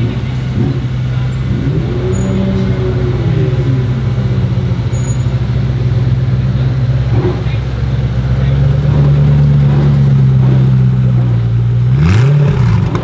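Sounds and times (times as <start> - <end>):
car engine idling: 0.0 - 13.0
engine note rising and falling: 0.0 - 13.0.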